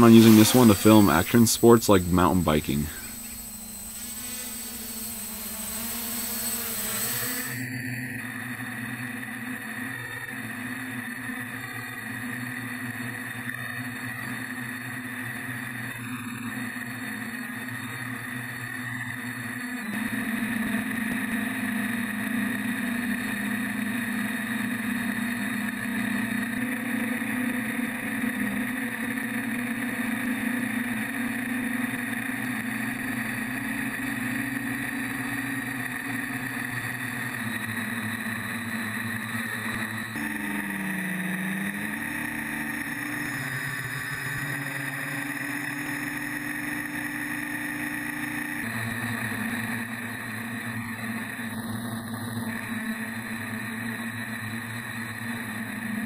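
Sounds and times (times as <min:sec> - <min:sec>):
drone motors humming: 0:00.0 - 0:56.0.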